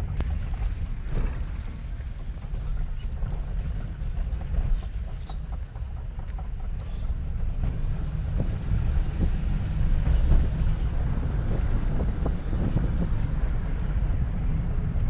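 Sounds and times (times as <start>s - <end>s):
car engine and road noise: 0.0s - 15.0s
wind buffeting microphone: 0.0s - 15.0s.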